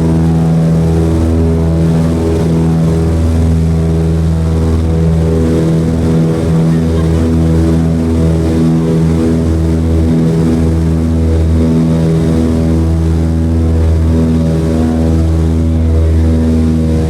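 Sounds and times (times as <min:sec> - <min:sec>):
radial engines droning with propellers: 0:00.0 - 0:17.0.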